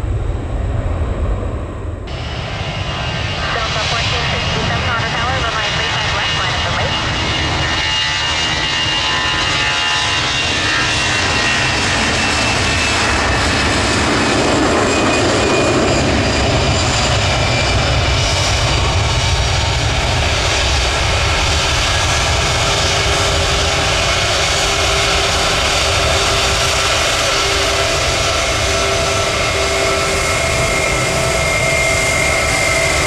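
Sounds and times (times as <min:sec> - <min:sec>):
jet engines rushing and whining: 0:00.0 - 0:33.0.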